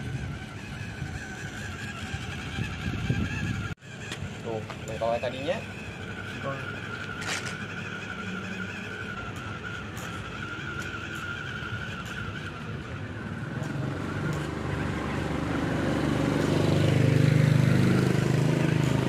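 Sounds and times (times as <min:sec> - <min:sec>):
electric motor and gearbox whining: 0:00.0 - 0:19.0
low engine sound: 0:00.0 - 0:19.0.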